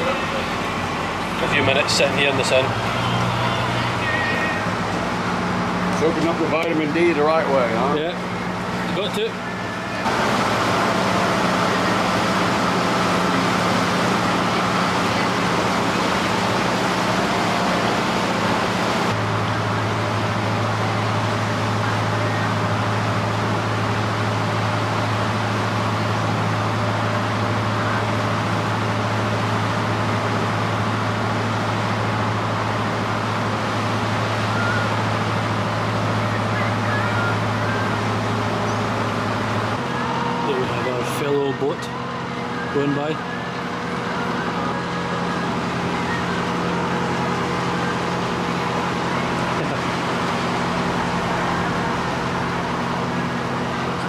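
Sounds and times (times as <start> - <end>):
boat engine drone: 0.0 - 54.0.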